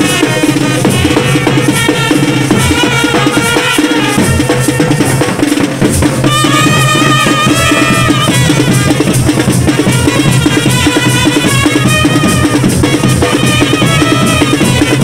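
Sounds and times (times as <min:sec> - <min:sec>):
fast drumming: 0:00.0 - 0:15.0
held melody line: 0:00.0 - 0:15.0.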